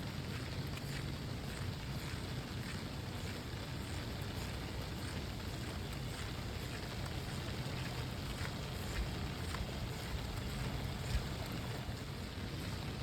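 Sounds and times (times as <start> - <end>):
faint raindrop ticks: 0.0 - 13.0
steady rain hiss: 0.0 - 13.0.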